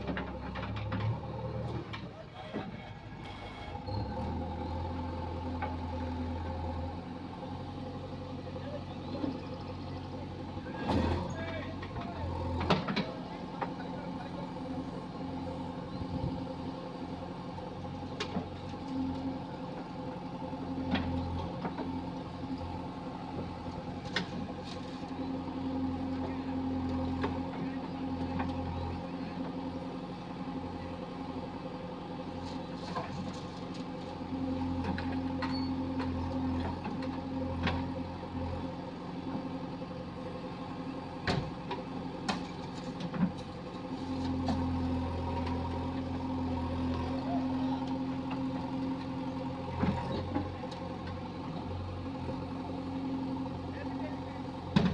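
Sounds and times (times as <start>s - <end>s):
diesel engine working: 0.0s - 54.9s.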